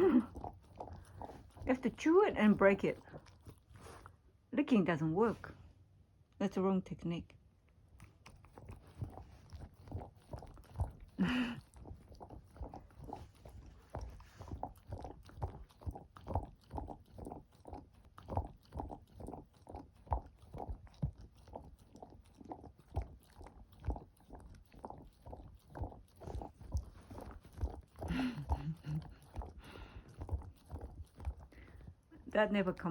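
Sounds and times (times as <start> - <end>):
dog licking and chewing: 0.0 - 4.3, 7.7 - 32.9.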